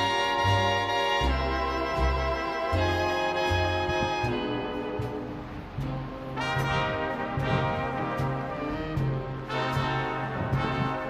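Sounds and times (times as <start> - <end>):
slow big-band music: 0.0 - 11.0.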